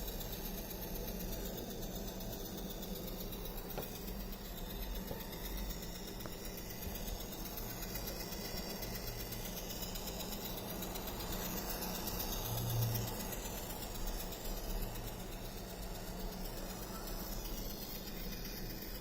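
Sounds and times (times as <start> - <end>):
laptop electrical hum: 0.0 - 19.0.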